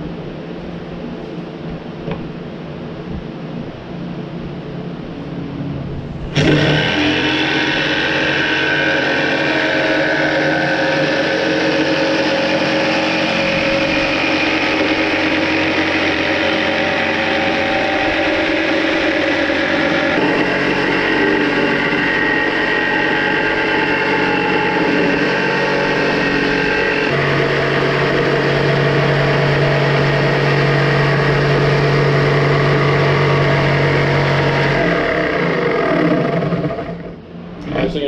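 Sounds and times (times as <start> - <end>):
steady background noise: 0.0 - 38.0
jigsaw cutting plywood: 6.4 - 37.9.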